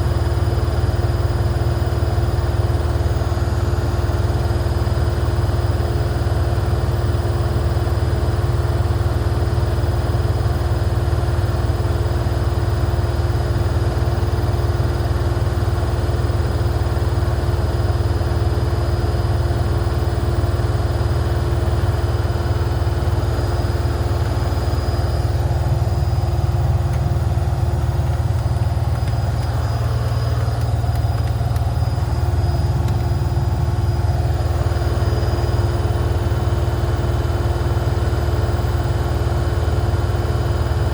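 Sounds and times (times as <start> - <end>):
constant hum tone: 0.0 - 40.9
washing machine drone: 0.0 - 40.9.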